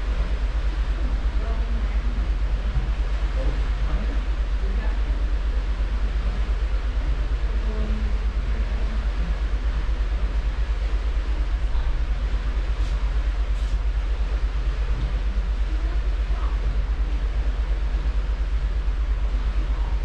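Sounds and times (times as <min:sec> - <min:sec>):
hiss of churning wake water: 0:00.0 - 0:20.0.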